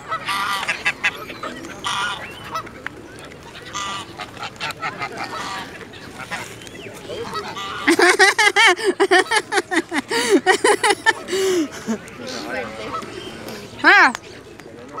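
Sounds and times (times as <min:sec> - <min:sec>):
geese honking: 0:00.0 - 0:02.8, 0:03.4 - 0:11.2, 0:11.8 - 0:13.4.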